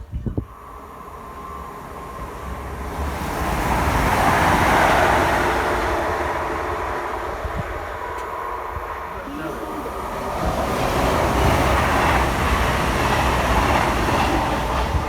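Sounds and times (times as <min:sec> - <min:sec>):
train passing rushing: 0:00.0 - 0:15.0.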